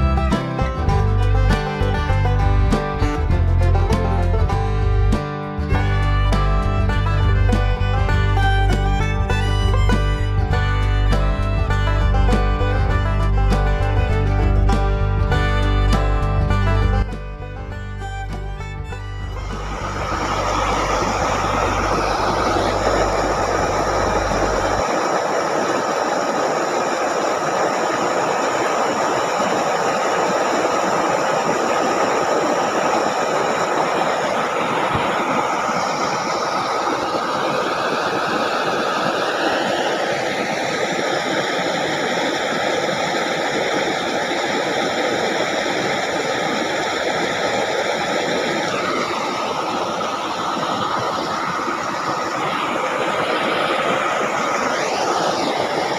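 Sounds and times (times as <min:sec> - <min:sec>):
water pouring into ditch: 0:00.0 - 0:55.9.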